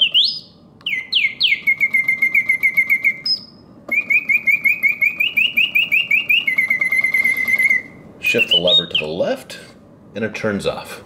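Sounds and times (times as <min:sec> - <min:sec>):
mechanical bird whistling trills: 0:00.0 - 0:09.2.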